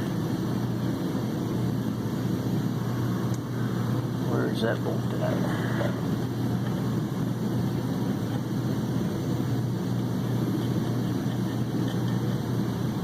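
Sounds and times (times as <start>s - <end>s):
low machine drone: 0.0s - 13.0s.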